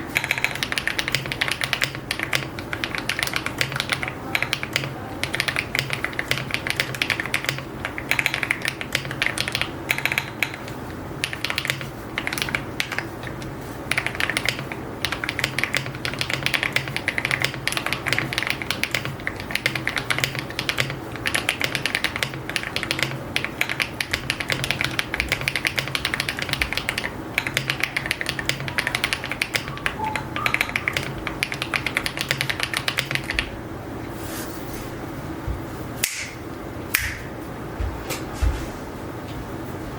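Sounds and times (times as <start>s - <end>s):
mechanical keyboard typing: 0.0s - 33.5s.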